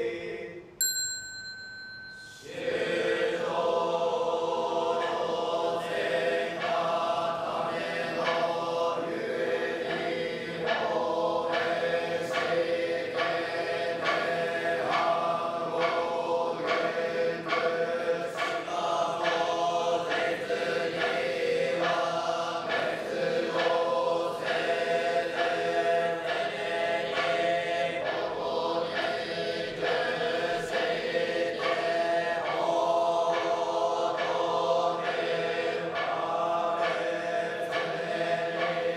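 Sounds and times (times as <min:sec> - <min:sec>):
monks chanting in unison: 0:00.0 - 0:00.7, 0:02.3 - 0:38.9.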